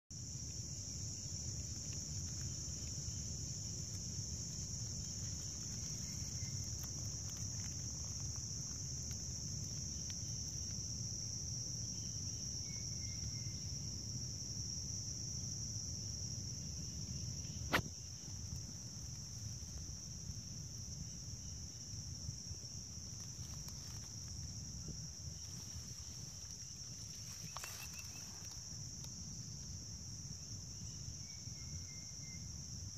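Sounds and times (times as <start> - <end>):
insects shrill drone: 0.6 - 32.9.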